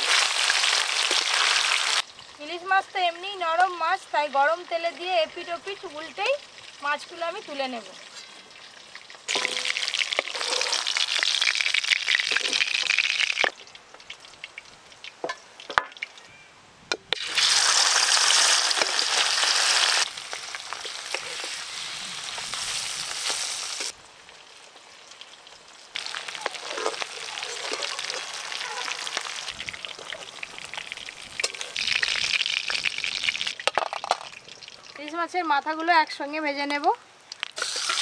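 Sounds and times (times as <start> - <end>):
fish sizzling in hot oil: 0.0 - 15.7, 17.2 - 35.2, 37.3 - 38.0.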